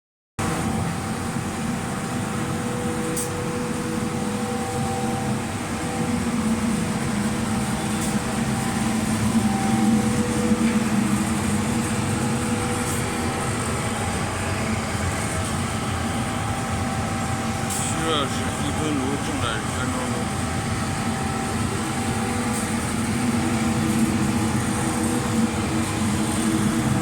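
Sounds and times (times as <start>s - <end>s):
furnace burner roaring: 0.4s - 27.0s.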